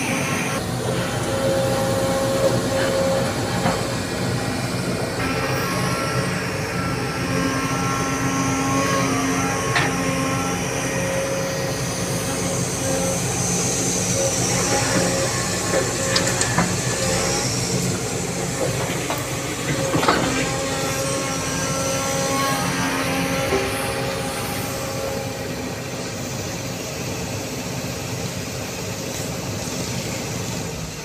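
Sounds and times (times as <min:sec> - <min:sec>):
dump truck diesel engine: 0:00.0 - 0:31.0
excavator diesel engine running: 0:00.0 - 0:31.0.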